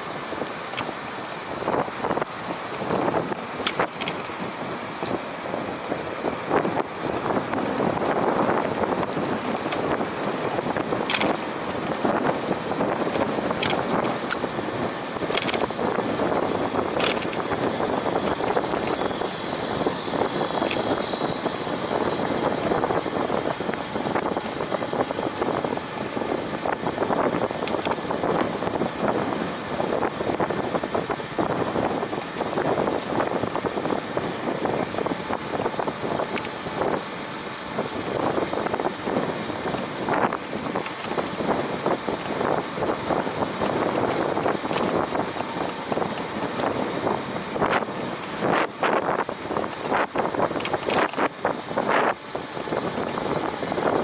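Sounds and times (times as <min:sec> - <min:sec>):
bicycle tyres rolling: 0:00.0 - 0:54.0
wind on microphone: 0:00.0 - 0:54.0.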